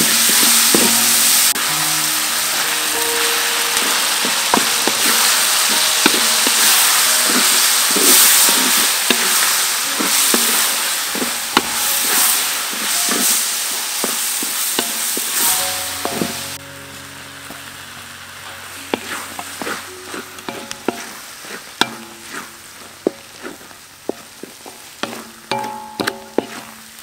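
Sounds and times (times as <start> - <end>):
wooden spatula scraping: 0.0 - 16.6, 18.5 - 27.0
food sizzling in a wok: 0.0 - 27.0.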